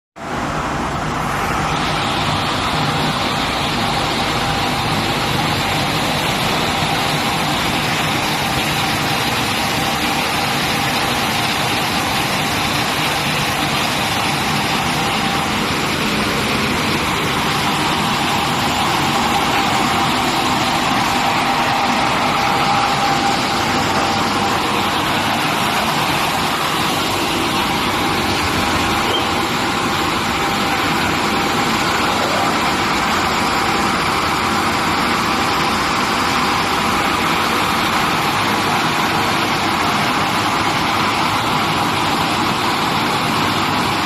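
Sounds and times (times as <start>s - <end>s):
washing machine running: 0.2s - 44.0s.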